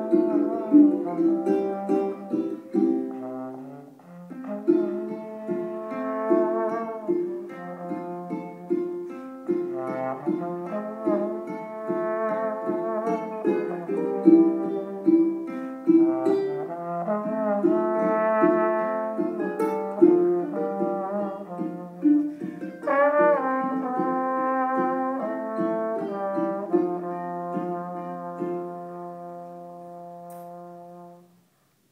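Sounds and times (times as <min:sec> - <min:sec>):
lower accompaniment: 0:00.0 - 0:31.4
trombone melody: 0:00.0 - 0:31.5.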